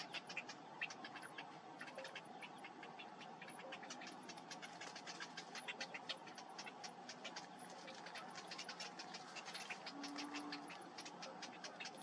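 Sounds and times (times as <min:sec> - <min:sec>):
bird chicks high ticking calls: 0:00.0 - 0:12.0.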